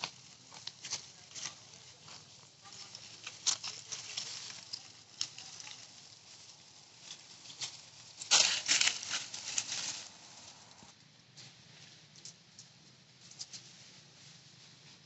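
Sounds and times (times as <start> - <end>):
rustling and crackling: 0.0 - 15.0.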